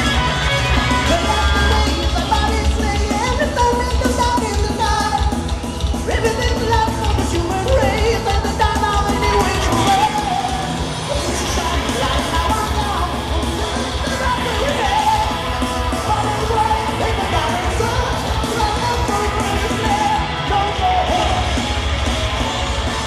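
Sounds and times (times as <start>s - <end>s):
person singing: 0.0s - 5.4s, 6.0s - 21.6s
live metal band: 0.0s - 23.0s.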